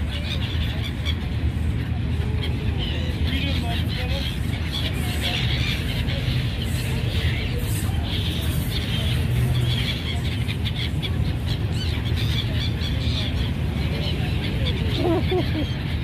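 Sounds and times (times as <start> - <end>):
gulls squawking: 0.0 - 16.0.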